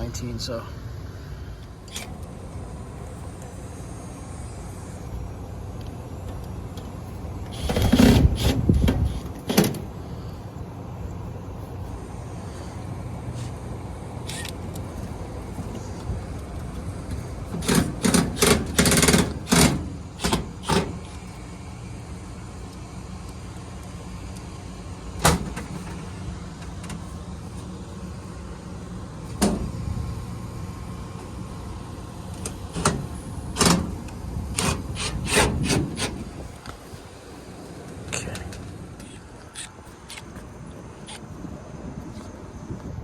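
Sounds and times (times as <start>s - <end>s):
steady low rumble: 0.0s - 43.0s.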